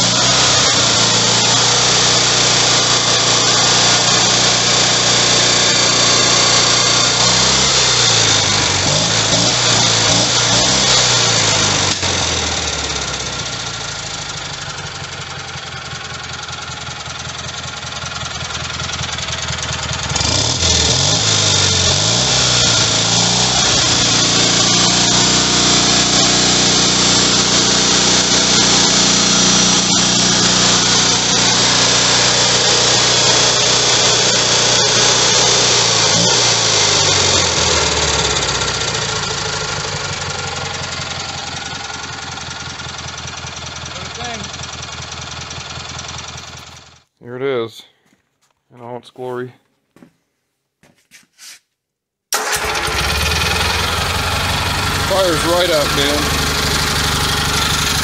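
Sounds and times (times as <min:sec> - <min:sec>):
twin-cylinder engine running: 0:00.0 - 0:47.0, 0:52.4 - 0:58.0.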